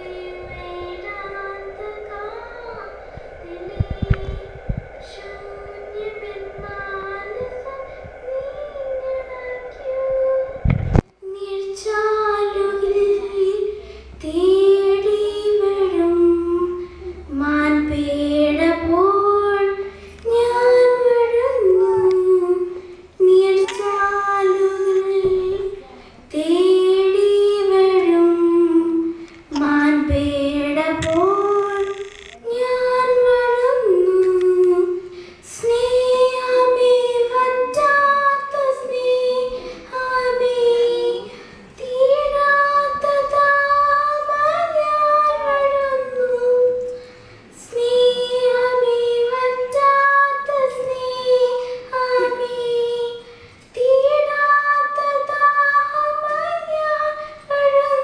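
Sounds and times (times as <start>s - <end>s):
girl singing into a microphone: 0.0s - 58.0s.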